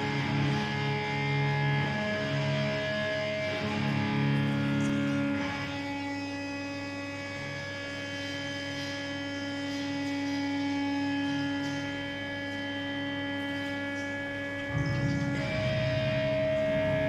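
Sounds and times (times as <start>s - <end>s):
amplifier hum: 0.0s - 17.0s
electric guitar strings ringing: 0.0s - 17.0s.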